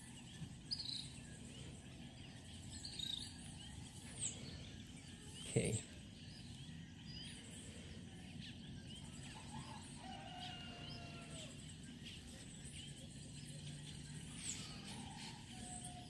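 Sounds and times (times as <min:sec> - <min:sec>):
faint bird chirps: 0:00.0 - 0:16.0
low outdoor background hum: 0:00.0 - 0:16.0.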